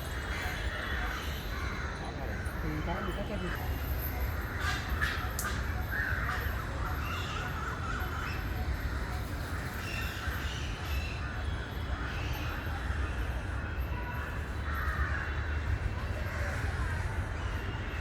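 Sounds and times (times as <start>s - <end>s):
birds cawing: 0.0s - 18.0s.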